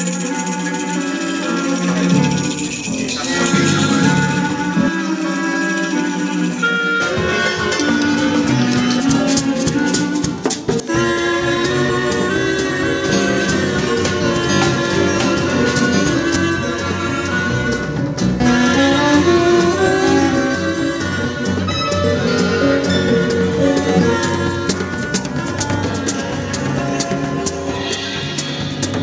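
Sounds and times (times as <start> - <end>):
clarinet: 0.0 - 29.0
drums: 0.0 - 29.0
electric guitar: 0.0 - 29.0
stage piano: 0.0 - 29.0
tenor saxophone: 0.0 - 29.0.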